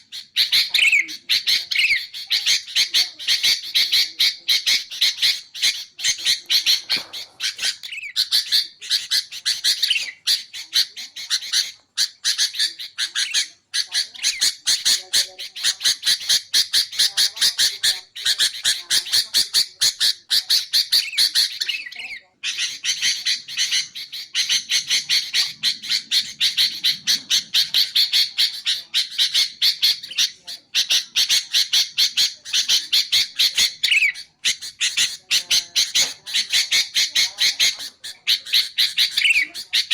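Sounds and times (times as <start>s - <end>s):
bulbul chattering: 0.0s - 39.9s.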